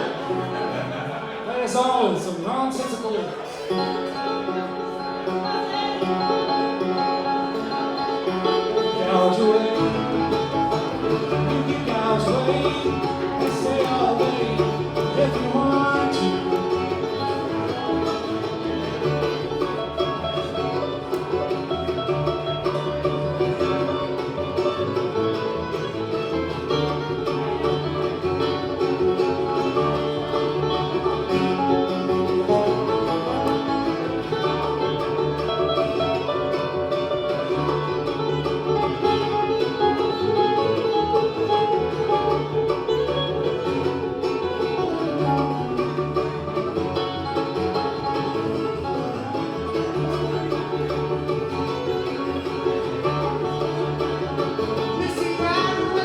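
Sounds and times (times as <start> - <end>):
bluegrass band playing: 0.0 - 56.0.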